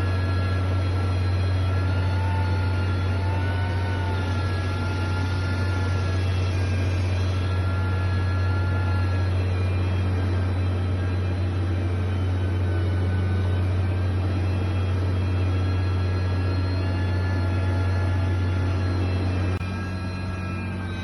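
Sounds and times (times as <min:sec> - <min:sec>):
construction machinery engine drone: 0:00.0 - 0:21.0
faint whine: 0:00.0 - 0:21.0.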